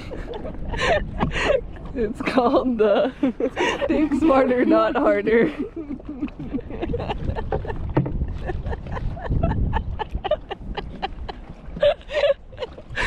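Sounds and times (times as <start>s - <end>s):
small waves slapping against hull: 0.0s - 13.0s
wind rumble on microphone: 0.0s - 13.0s.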